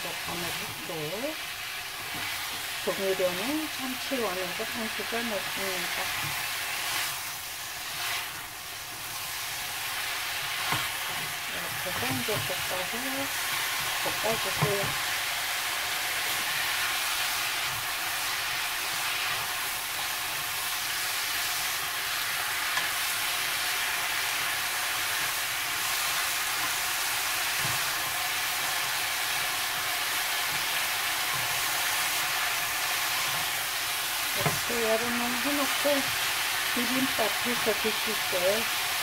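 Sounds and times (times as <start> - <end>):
greens sizzling in a wok: 0.0 - 39.0.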